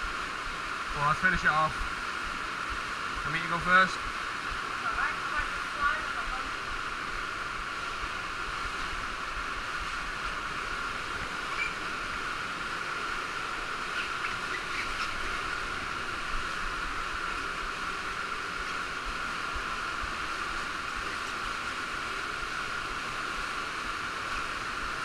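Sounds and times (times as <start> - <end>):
cave stream and small waterfall: 0.0 - 25.0.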